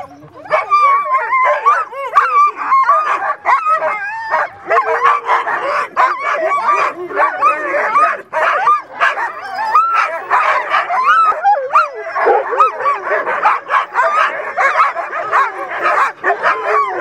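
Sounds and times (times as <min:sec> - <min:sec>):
sled dogs barking and yipping: 0:00.0 - 0:17.0.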